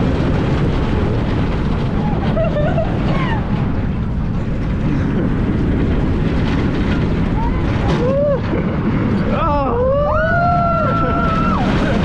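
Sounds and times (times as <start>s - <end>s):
roller coaster rumbling on track: 0.0s - 12.0s
wind buffeting microphone: 0.0s - 12.0s.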